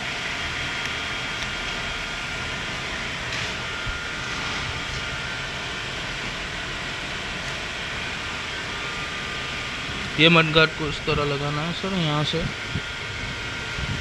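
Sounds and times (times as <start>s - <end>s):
mechanical hiss and hum: 0.0s - 14.0s.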